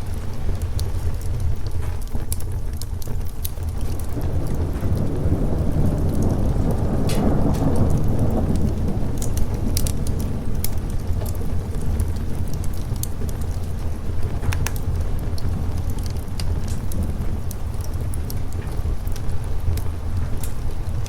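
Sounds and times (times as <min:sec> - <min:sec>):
steady rain: 0:00.0 - 0:21.0
thunder rolling: 0:00.0 - 0:21.0
wood fire crackling: 0:00.0 - 0:21.0.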